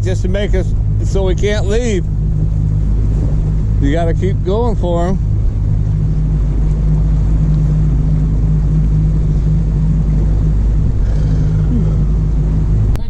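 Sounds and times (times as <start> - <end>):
boat motor droning: 0.0 - 13.0
water rushing around hull: 0.0 - 13.0.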